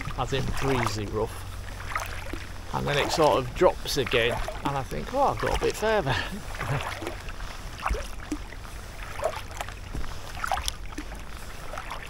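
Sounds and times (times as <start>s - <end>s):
low steady rumble: 0.0s - 12.0s
paddle splashing water: 0.0s - 12.0s.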